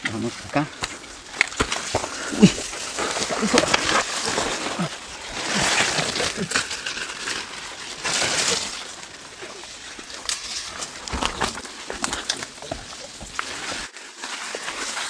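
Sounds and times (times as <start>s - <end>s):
stems snapping: 0.0s - 13.9s
leaves rustling and swishing: 0.0s - 15.0s.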